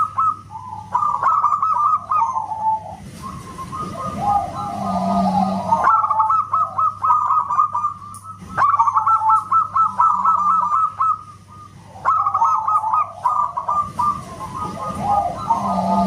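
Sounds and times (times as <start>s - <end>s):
dove cooing in staccato notes: 0.0s - 16.0s.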